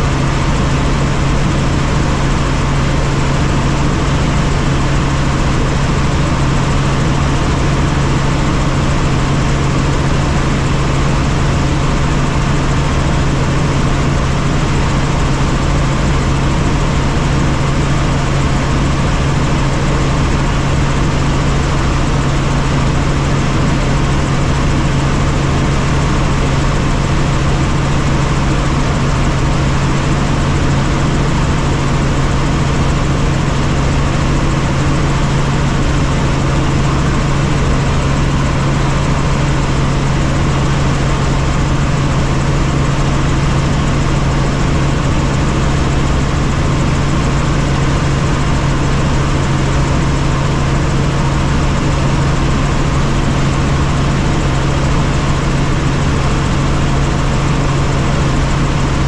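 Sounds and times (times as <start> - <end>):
helicopter engine and rotors droning: 0.0 - 59.0.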